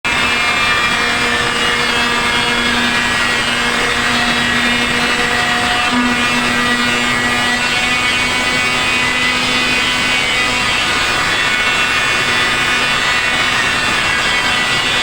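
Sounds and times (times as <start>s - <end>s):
electric power sander grinding: 0.1s - 15.0s.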